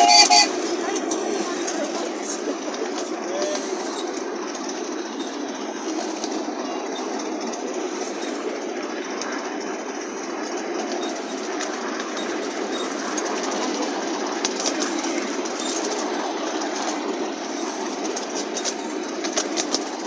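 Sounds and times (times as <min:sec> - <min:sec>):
miniature train wheels rumbling on rail: 0:00.0 - 0:20.0.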